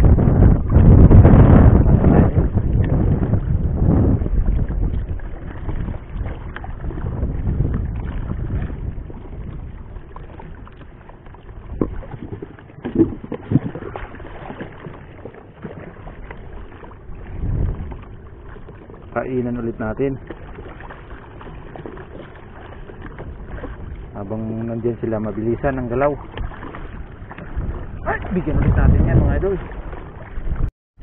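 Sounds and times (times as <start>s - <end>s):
water sloshing against boat: 0.0s - 30.7s
wind buffeting microphone: 0.0s - 30.7s.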